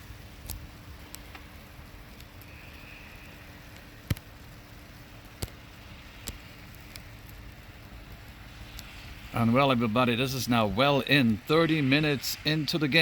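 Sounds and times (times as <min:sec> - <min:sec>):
faint hum: 0:00.0 - 0:13.0
low background rumble: 0:00.0 - 0:13.0.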